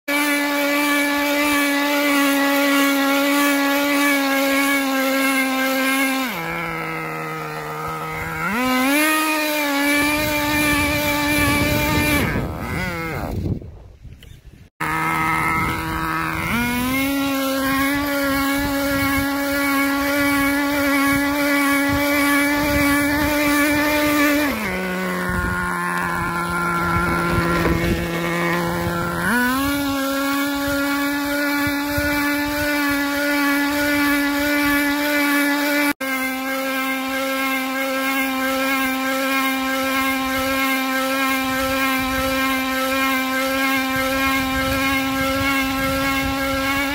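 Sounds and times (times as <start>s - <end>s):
small nitro engine revving: 0.0s - 46.9s.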